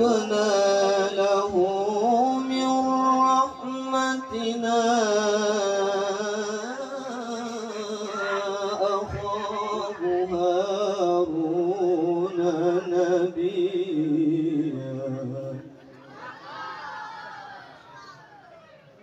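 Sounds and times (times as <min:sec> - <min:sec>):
man reciting melodically: 0:00.0 - 0:15.9.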